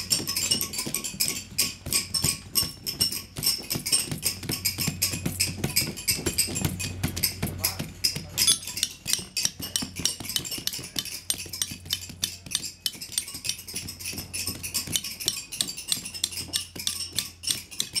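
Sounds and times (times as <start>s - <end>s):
metal combs clinking on threads: 0.0s - 18.0s.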